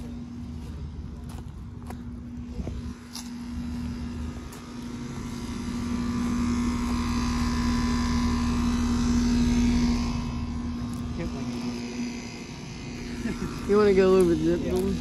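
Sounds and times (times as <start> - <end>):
compressor hum: 0.0 - 15.0.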